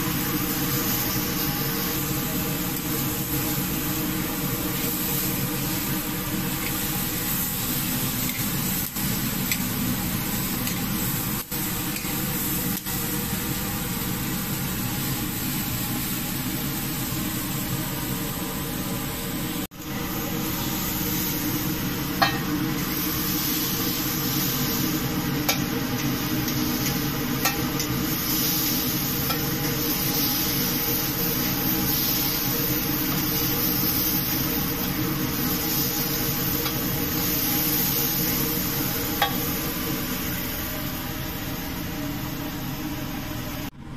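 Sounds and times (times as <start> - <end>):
steaks sizzling on a grill: 0.0 - 17.8, 19.9 - 41.0.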